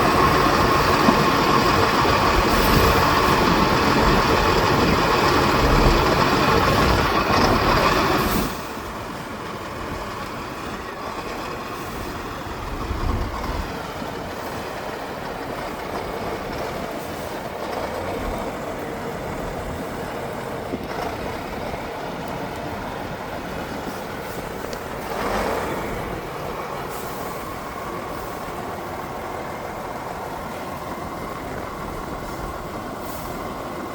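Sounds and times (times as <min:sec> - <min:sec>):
truck engine running under load: 0:00.0 - 0:33.9.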